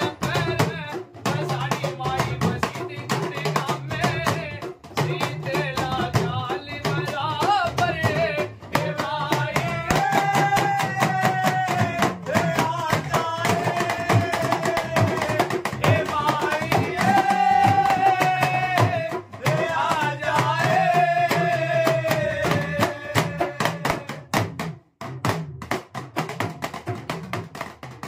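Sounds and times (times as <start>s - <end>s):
men singing together: 0.0s - 24.4s
drums beaten with sticks: 0.0s - 28.0s.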